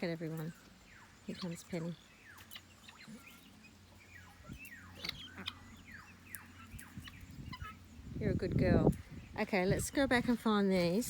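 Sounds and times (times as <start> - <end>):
poultry chirping: 0.0 - 10.9.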